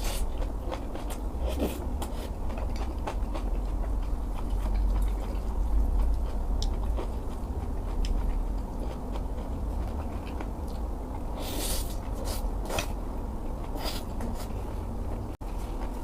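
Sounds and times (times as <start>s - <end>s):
mouth chewing food: 0.0s - 15.3s.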